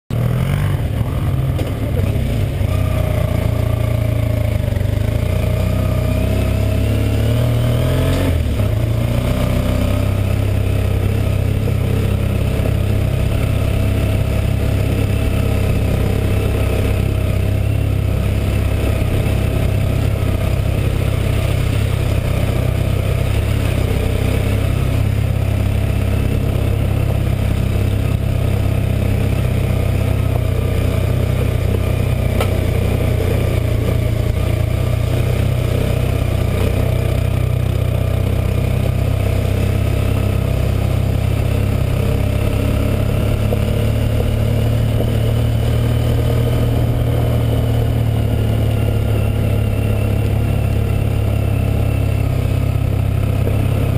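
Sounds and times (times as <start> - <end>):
motorcycle engine revving: 0.1 - 53.9.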